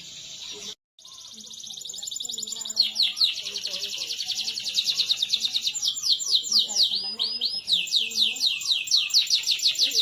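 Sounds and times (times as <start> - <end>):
canary singing trills: 0.0 - 10.0.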